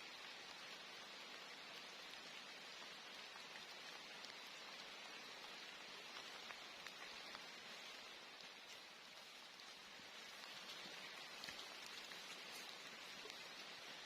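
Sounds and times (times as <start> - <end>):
raindrop ticks: 0.0 - 14.0
steady rain hiss: 0.0 - 14.0.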